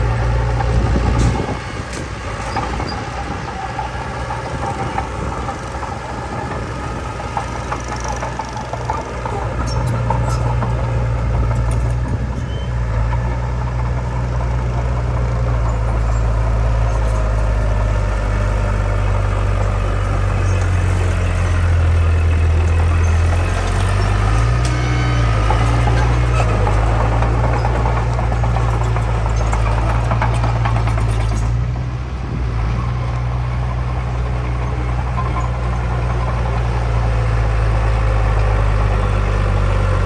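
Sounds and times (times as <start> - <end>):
heavy diesel engine humming: 0.0 - 40.0.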